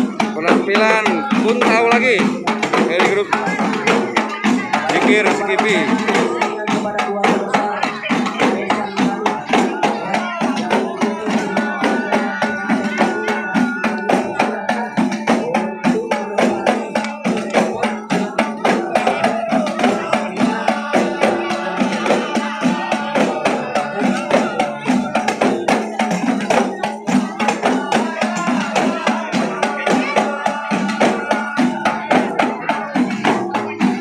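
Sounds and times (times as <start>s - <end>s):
frame drums beaten fast: 0.0s - 34.0s
voices singing: 0.0s - 34.0s.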